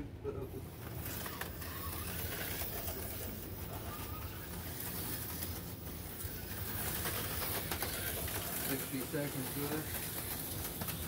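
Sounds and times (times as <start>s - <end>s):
slot car motors whirring: 0.5s - 11.0s.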